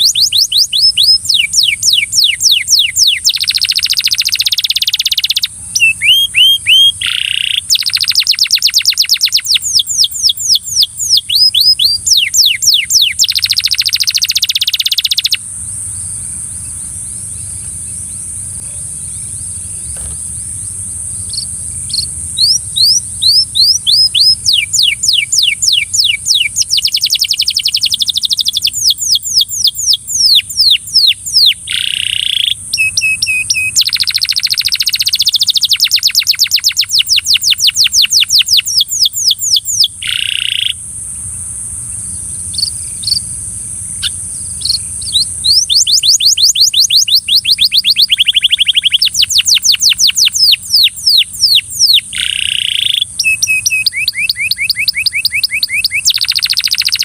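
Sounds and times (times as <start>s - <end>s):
canary singing trills: 0.0s - 40.8s, 41.8s - 57.0s
steady high hiss: 0.0s - 57.0s.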